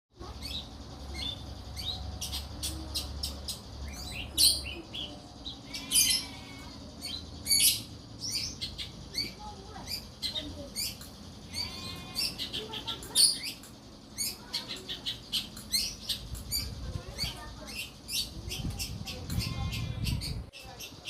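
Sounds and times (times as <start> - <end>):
bird chirping and twittering: 0.2 - 21.0.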